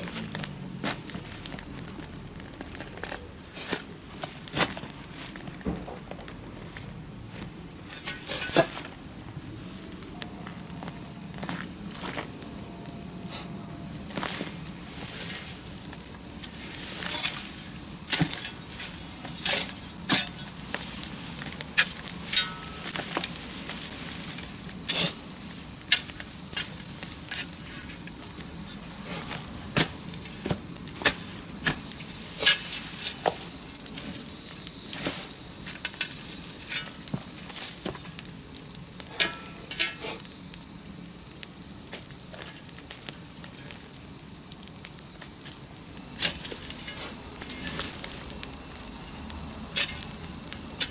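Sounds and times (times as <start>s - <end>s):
campfire crackling and popping: 0.0s - 50.9s.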